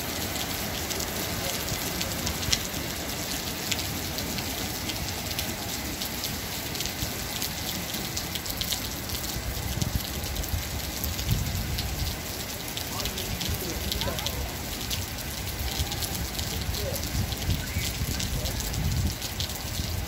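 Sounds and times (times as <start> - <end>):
heavy rain falling: 0.0 - 20.0
raindrops ticking on hard surfaces: 0.0 - 20.0.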